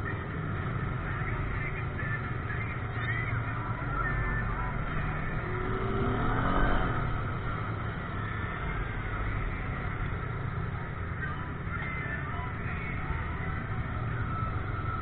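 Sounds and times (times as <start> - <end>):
vehicle engine running and revving: 0.0 - 15.0.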